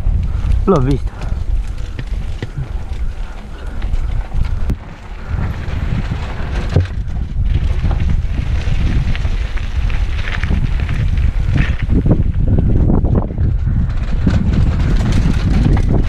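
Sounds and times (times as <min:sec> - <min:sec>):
bike clicks and rattles: 0:00.0 - 0:16.0
tyre rumble: 0:00.0 - 0:16.0
wind buffeting microphone: 0:00.0 - 0:16.0.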